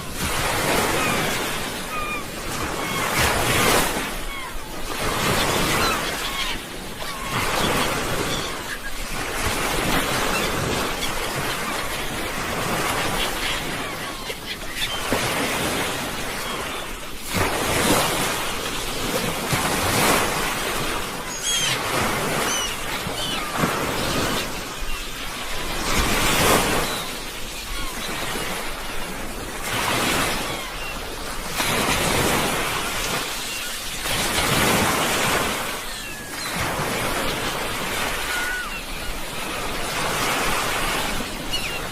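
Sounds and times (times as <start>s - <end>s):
sea waves washing onto shore: 0.0s - 41.9s.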